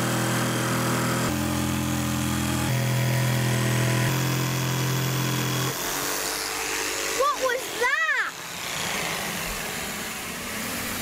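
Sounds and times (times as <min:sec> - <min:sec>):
electric jigsaw cutting wood: 0:00.0 - 0:11.0
vacuum cleaner running: 0:00.0 - 0:11.0.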